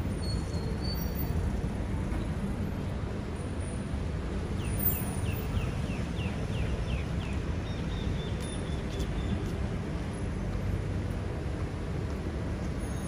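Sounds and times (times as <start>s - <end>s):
low street traffic rumble: 0.0s - 13.0s.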